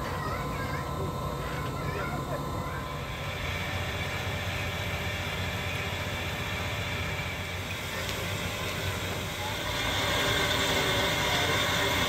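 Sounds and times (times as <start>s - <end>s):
steam locomotive hissing and rumbling: 0.0s - 12.0s.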